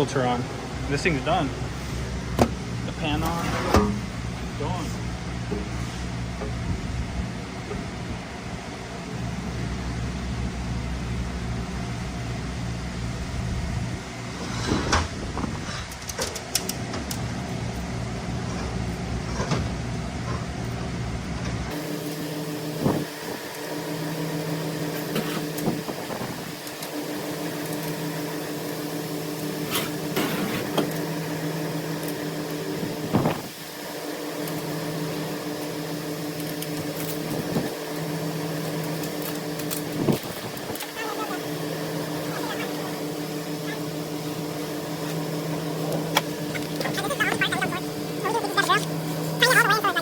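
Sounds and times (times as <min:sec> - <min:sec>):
machine hum: 0:00.0 - 0:50.0.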